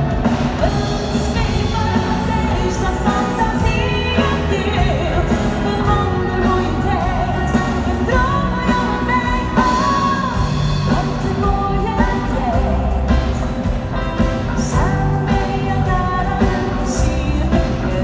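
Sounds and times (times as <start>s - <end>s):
band with drums and keyboard: 0.0s - 18.0s
woman singing into a microphone: 0.0s - 18.0s.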